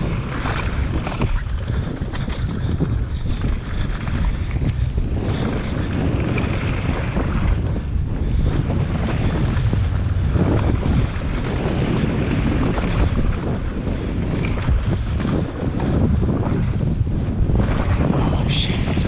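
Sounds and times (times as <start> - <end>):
mountain bike rattling over dirt: 0.0 - 19.0
wind buffeting microphone: 0.0 - 19.0.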